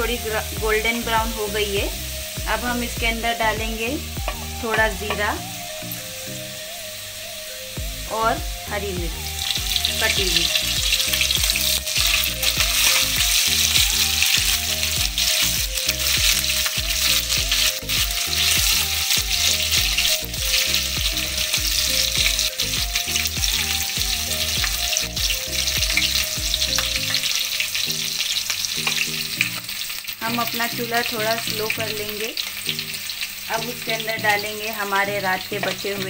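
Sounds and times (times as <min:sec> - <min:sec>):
onions sizzling in hot oil: 0:00.0 - 0:36.0.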